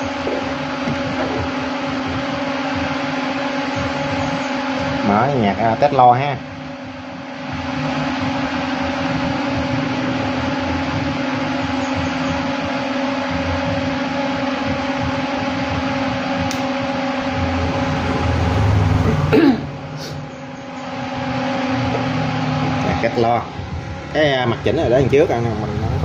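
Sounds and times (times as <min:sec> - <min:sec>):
loudspeaker hiss and hum: 0:00.0 - 0:26.0.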